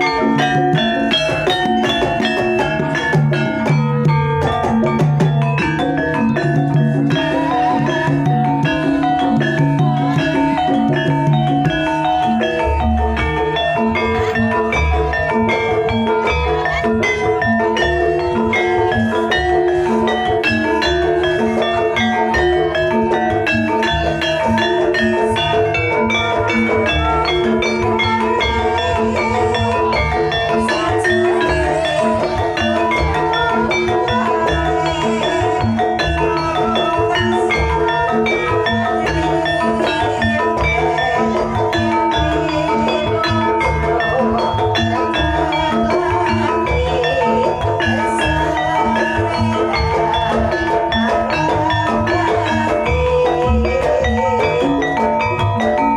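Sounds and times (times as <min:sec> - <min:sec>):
gamelan music: 0:00.0 - 0:55.9.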